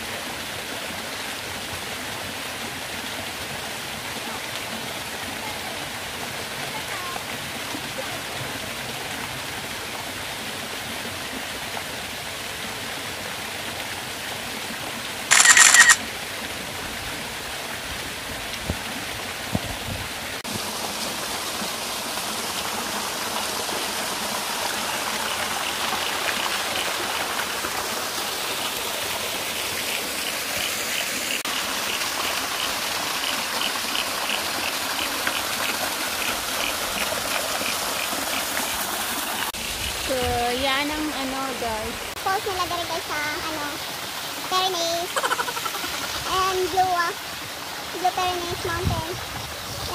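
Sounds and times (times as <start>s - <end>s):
small waterfall splashing into pool: 0.0s - 49.9s.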